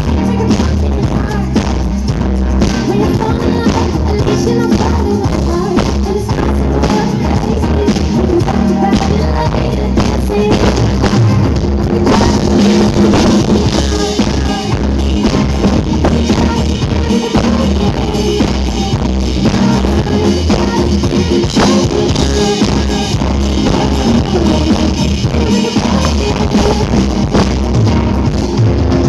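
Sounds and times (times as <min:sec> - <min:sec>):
drum kit beat: 0:00.0 - 0:29.0
live pop-rock band: 0:00.0 - 0:29.0.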